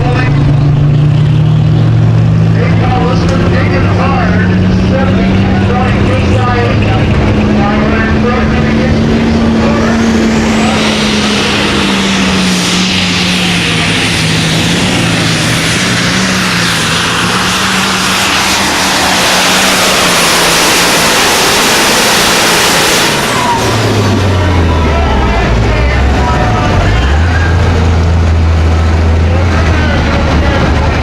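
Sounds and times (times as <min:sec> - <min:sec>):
diesel tractor engine under load: 0:00.0 - 0:31.0.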